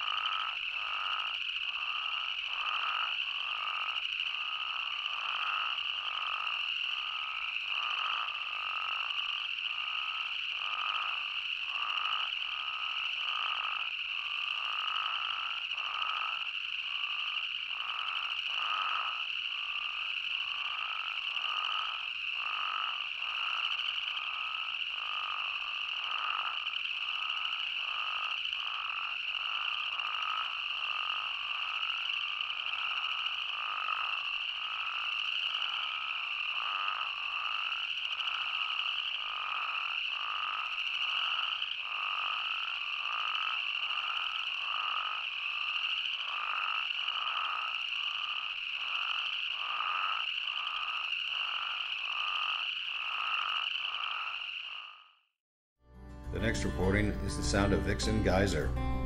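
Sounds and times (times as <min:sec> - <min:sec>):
high trilling frog chorus: 0:00.0 - 0:55.2
short low frog calls: 0:00.0 - 0:55.3.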